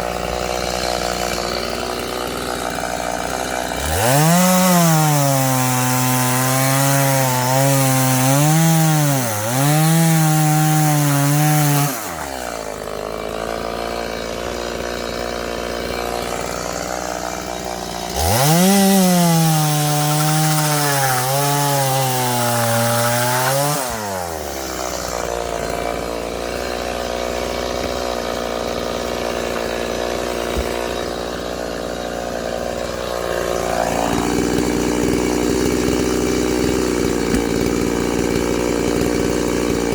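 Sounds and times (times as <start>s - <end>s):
chainsaw cutting wood: 0.0s - 39.9s
chainsaw idling quietly: 0.0s - 39.9s.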